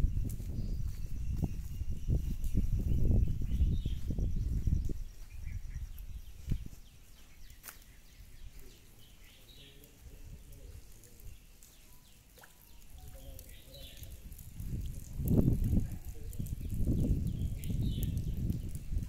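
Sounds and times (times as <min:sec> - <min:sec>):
bird chirps: 0:00.0 - 0:15.6, 0:16.2 - 0:19.0.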